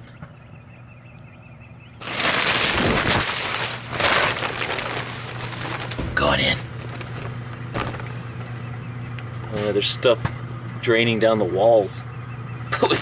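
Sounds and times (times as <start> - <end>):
microwave oven humming: 0.3 - 13.0.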